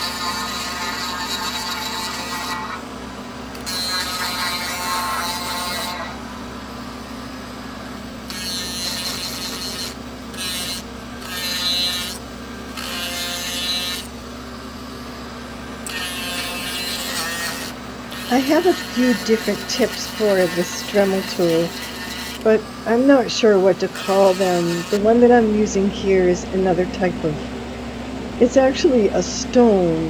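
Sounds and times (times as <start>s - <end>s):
rotary tool grinding wood: 0.0s - 2.9s, 3.5s - 26.8s.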